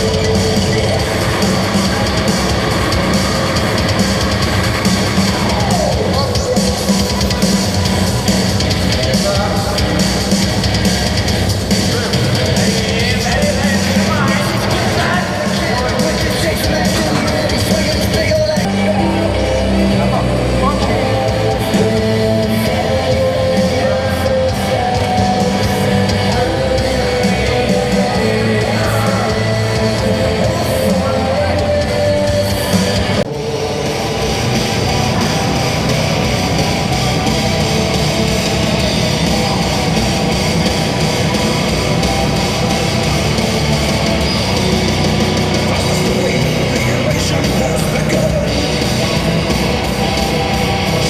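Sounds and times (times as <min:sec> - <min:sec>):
heavy rock music: 0:00.0 - 0:51.0.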